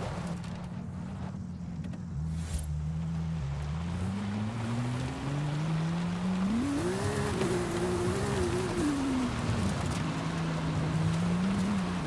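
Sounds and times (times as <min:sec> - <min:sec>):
sports car engine: 0:00.8 - 0:12.0.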